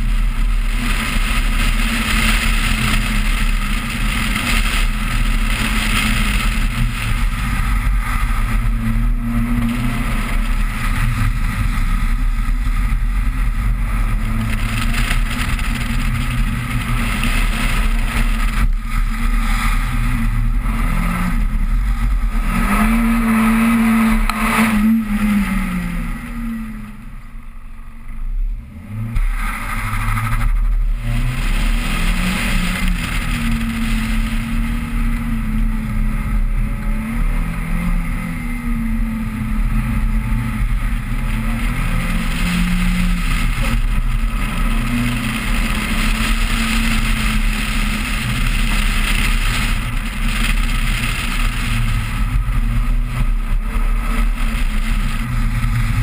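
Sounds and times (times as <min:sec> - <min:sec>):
car engine revving: 0:00.0 - 0:56.0
low wind rumble: 0:00.0 - 0:56.0.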